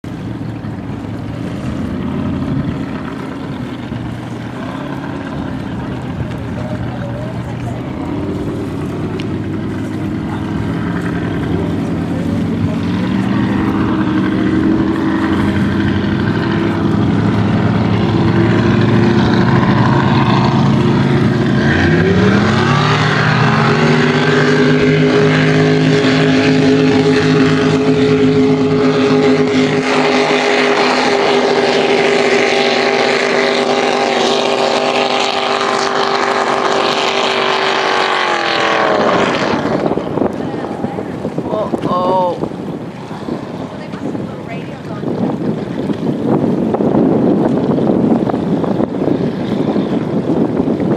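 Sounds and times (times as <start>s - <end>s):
motorboat engine running: 0.0s - 50.9s.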